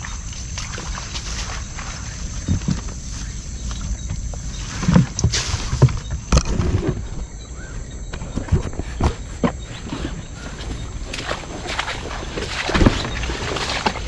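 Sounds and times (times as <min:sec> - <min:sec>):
footsteps through wet grass: 0:00.0 - 0:06.1, 0:08.7 - 0:14.0
water splashes: 0:00.0 - 0:06.5, 0:09.1 - 0:14.0
high insect drone: 0:00.0 - 0:14.0
rustling plants: 0:00.0 - 0:14.0.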